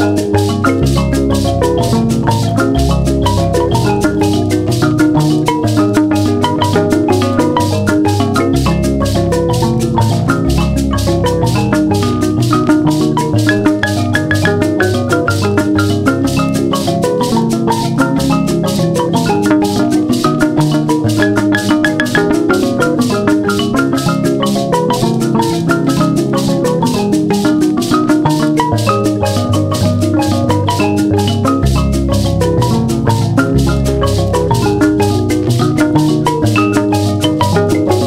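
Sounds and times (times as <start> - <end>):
fast shaker beat: 0.0 - 38.0
marimba-like mallet melody: 0.0 - 38.0.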